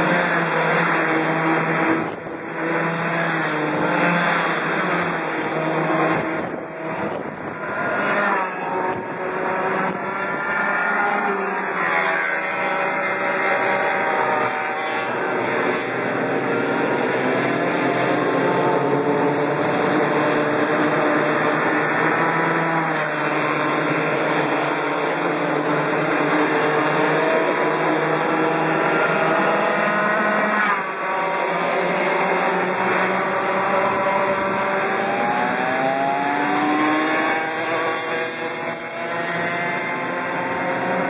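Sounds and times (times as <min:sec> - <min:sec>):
kart engines buzzing: 0:00.0 - 0:41.0.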